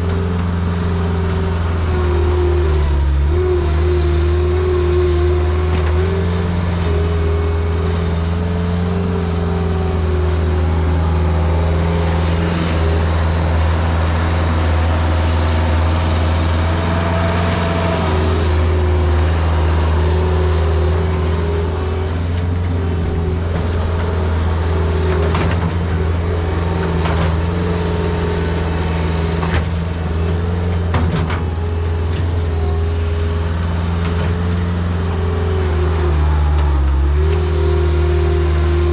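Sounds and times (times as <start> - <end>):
loader engine running under load: 0.0 - 38.9.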